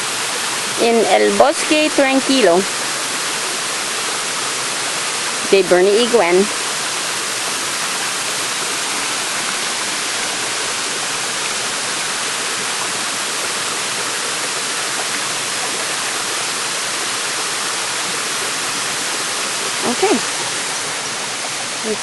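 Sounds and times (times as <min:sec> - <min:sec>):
waterfall crashing into pool: 0:00.0 - 0:22.0.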